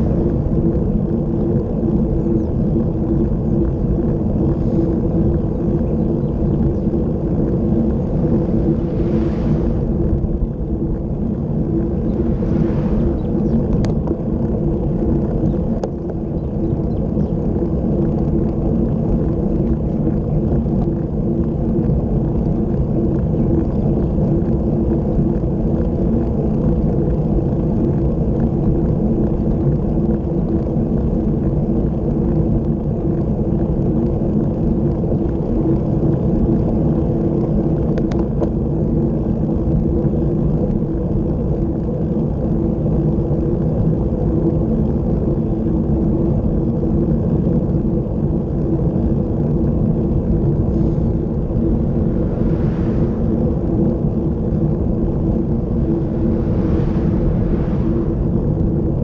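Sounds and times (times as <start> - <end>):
tyres rumbling on asphalt: 0.0 - 59.0
wind rush on microphone: 0.0 - 59.0.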